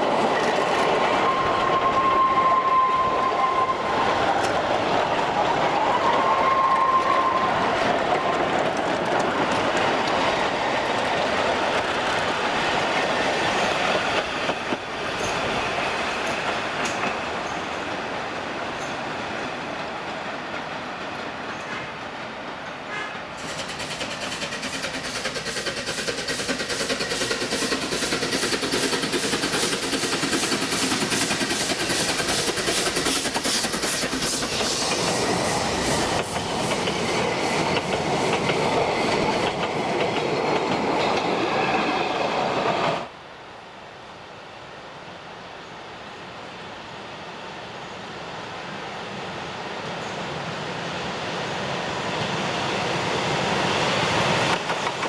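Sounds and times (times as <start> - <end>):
train wheels clattering over rails: 0.0 - 43.1, 52.0 - 55.0.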